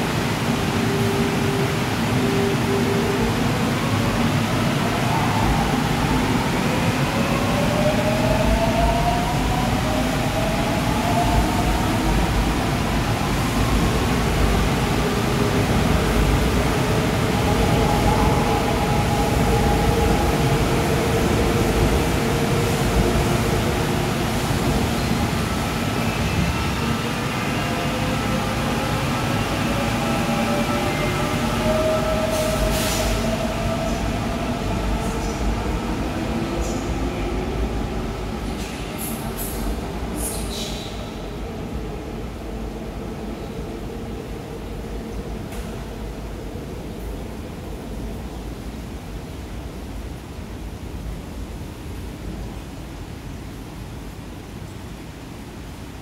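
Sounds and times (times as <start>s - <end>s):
electric train passing: 0.0s - 50.1s
wheels rumbling on rail: 0.0s - 54.1s.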